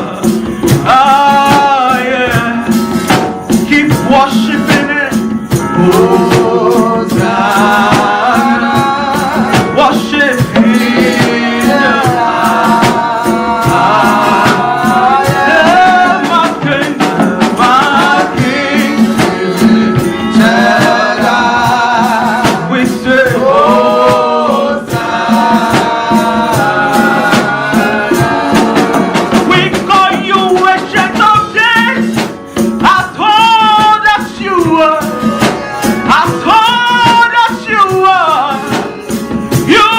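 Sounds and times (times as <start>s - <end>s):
voices singing over a beat: 0.0s - 39.9s.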